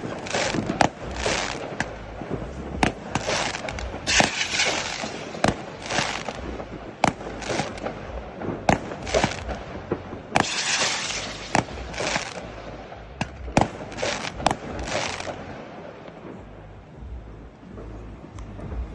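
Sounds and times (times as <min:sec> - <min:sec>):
fireworks bangs and crackling: 0:00.0 - 0:18.9.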